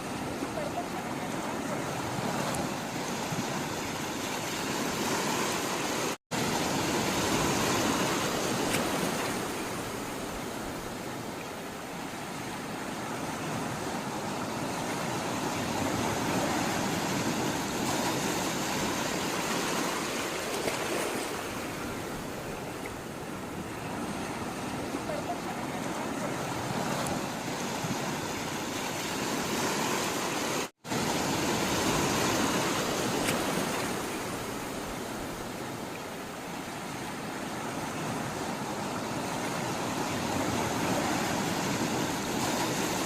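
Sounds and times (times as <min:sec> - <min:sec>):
sea water rushing: 0:00.0 - 0:43.0.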